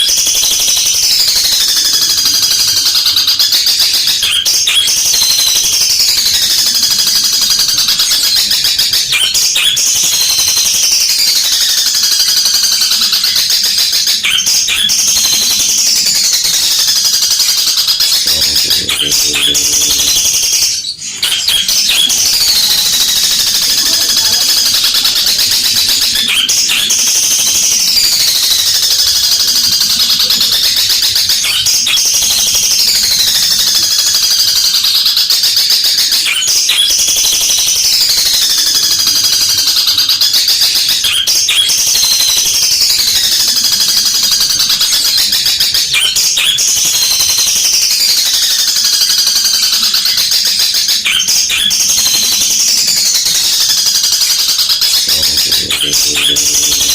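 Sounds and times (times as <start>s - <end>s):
shrike singing harsh chatter: 0.0s - 56.9s.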